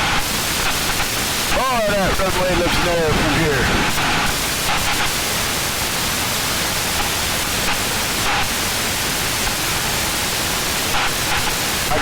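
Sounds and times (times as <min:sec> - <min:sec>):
airplane engine and airflow hiss: 0:00.0 - 0:10.0.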